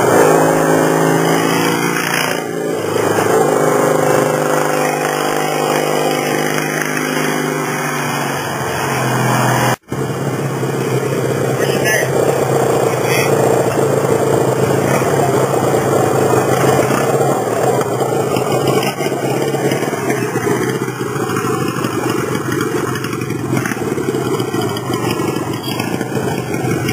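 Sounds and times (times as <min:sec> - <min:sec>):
motorcycle passing by: 0:00.0 - 0:26.9.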